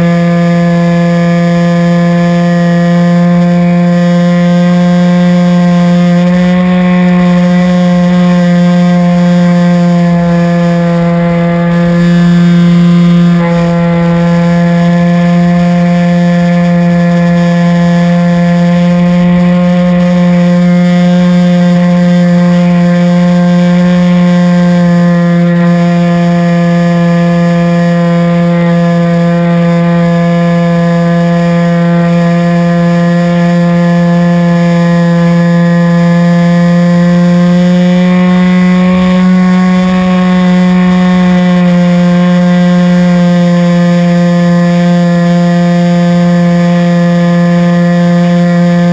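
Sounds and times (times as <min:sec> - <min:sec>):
model airplane motor droning: 0:00.0 - 0:48.9.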